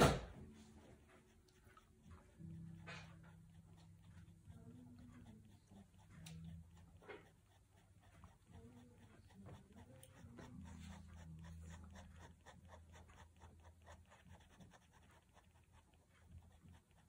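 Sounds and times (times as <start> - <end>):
pen scratching on paper: 1.2 - 17.0.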